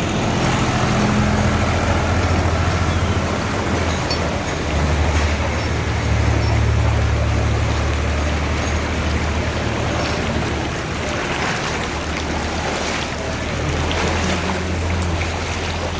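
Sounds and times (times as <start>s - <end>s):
floodwater rushing: 0.0s - 15.9s
vehicle engine humming: 0.0s - 15.9s.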